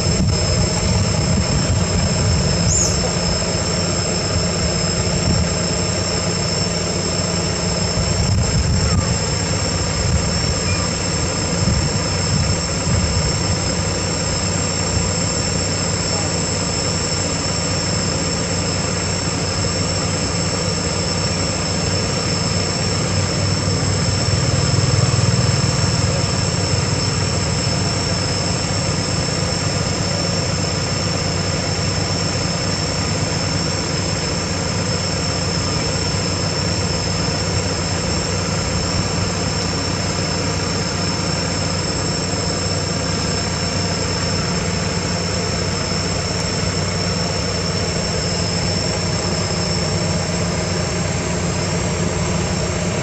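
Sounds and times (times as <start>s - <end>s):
high-pitched whines: 0.0s - 53.0s
low hum: 0.0s - 53.0s.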